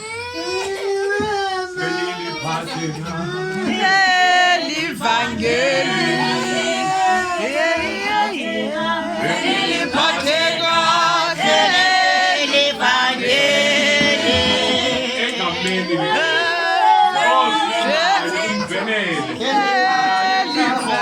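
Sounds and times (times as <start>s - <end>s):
voices singing without instruments: 1.2s - 21.0s.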